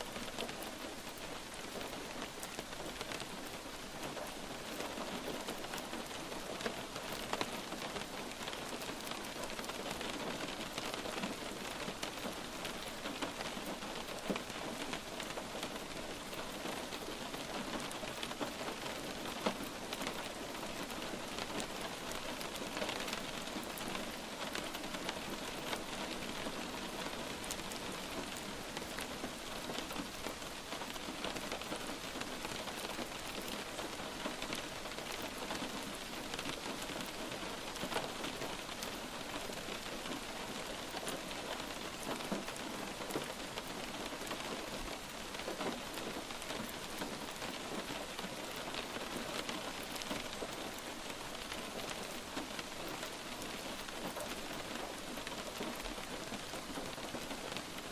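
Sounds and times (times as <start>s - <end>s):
light rain falling: 0.0s - 57.9s.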